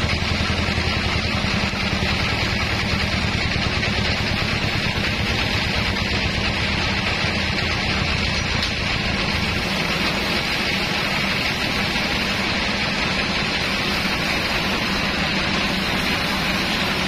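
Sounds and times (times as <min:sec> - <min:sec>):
band saw blade running: 0:00.0 - 0:17.0
sawmill drive humming: 0:00.0 - 0:17.0.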